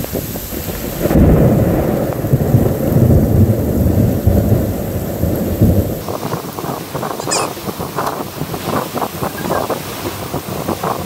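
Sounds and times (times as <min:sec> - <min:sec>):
gusty wind buffeting microphone: 0:00.0 - 0:11.0
heavy rain hissing: 0:00.0 - 0:11.0.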